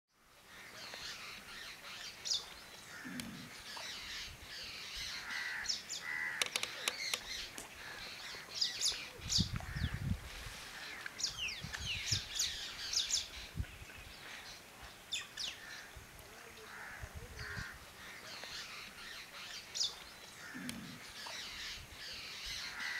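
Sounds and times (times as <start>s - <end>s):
birds chirping chorus: 0.2s - 22.9s.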